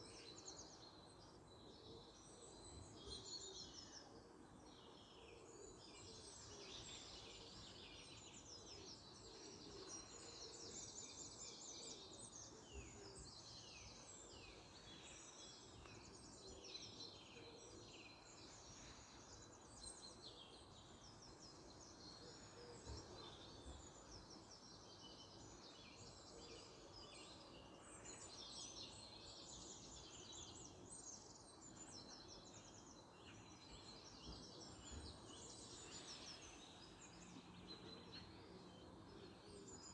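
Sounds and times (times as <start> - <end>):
small birds chirping and trilling: 0.0 - 39.9
low outdoor background hum: 0.4 - 39.9.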